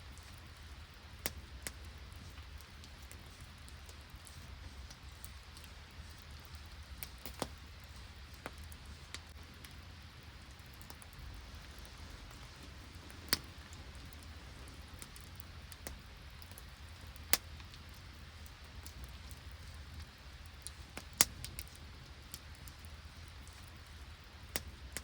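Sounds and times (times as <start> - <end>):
campfire crackling: 0.0 - 25.0
low steady rumble: 0.0 - 25.0
fire pops: 0.1 - 25.0.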